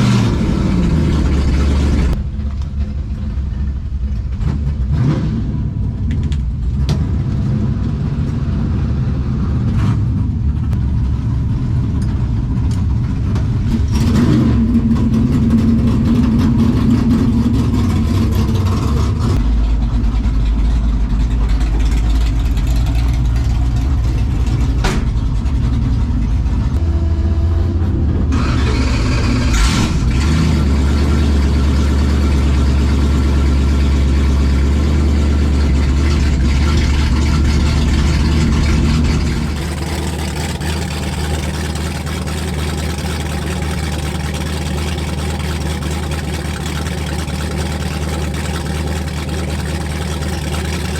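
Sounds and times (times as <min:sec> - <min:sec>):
drag car engine droning: 0:00.0 - 0:50.9.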